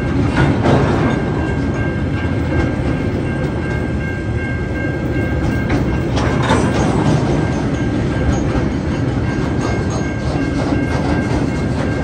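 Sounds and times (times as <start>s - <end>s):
freight train rumbling past: 0.0s - 12.0s
wheels clacking over rail joints: 0.2s - 12.0s.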